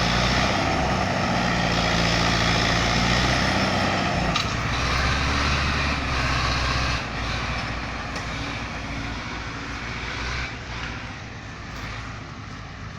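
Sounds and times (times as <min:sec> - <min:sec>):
tractor engine running under load: 0:00.0 - 0:12.9.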